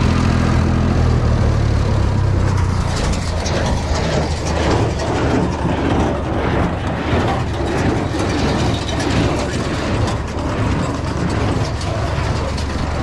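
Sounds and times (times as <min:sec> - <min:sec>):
tractor engine drone: 0:00.0 - 0:13.0
baler mechanism clattering and ratcheting: 0:02.5 - 0:13.0.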